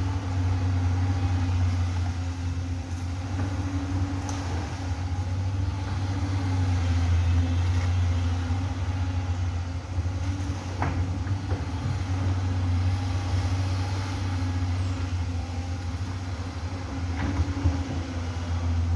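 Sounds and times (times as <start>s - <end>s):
diesel engine humming: 0.0s - 18.9s.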